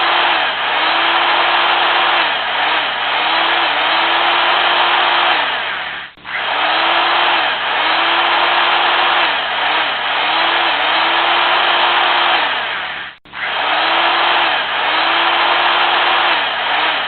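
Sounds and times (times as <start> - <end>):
electric drill motor whining: 0.0 - 17.0.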